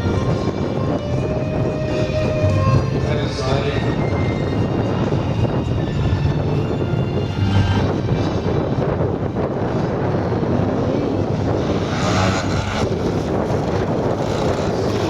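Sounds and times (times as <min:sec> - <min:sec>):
model plane engine drone: 0:00.0 - 0:15.0
wind buffeting microphone: 0:00.0 - 0:15.0.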